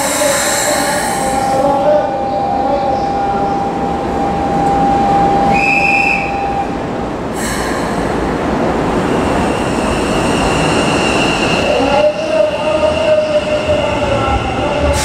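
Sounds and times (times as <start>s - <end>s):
rumbling station noise: 0.0s - 15.0s
train drive whine: 0.0s - 15.0s.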